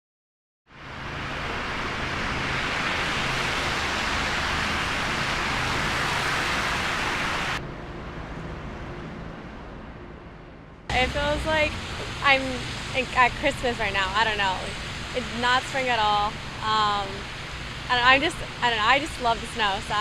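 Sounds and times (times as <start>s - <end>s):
traffic on slushy roads: 0.7s - 10.0s, 10.9s - 20.0s.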